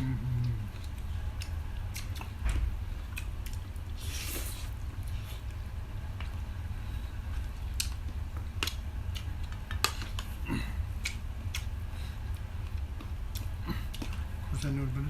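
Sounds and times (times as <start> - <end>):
chewing: 0.0 - 5.6, 7.3 - 14.8
steady low hum: 0.0 - 15.0.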